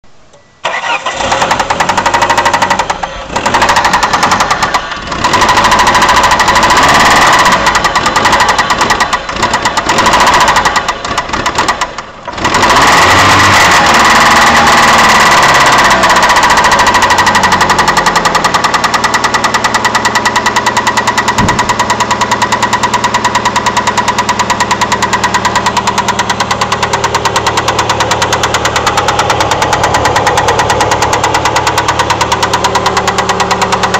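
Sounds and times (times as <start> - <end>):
engine running with even knock: 0.8 - 33.9.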